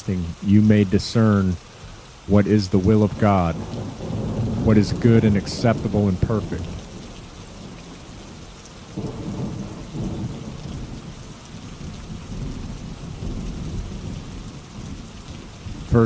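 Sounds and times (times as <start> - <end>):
steady rainfall: 0.0 - 16.0
rolling thunder: 2.8 - 16.0.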